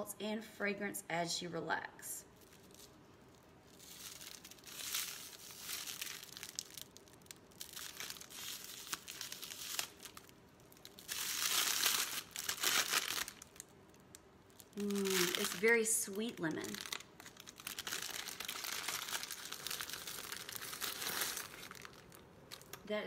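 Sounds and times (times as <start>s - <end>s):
plastic wrap crinkling: 2.4s - 23.0s.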